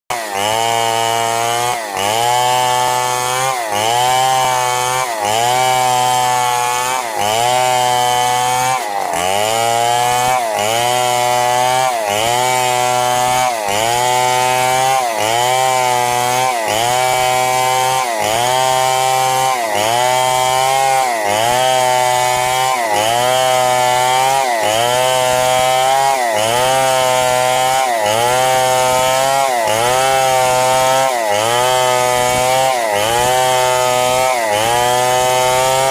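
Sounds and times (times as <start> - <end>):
chainsaw sawing a log: 0.0 - 35.9.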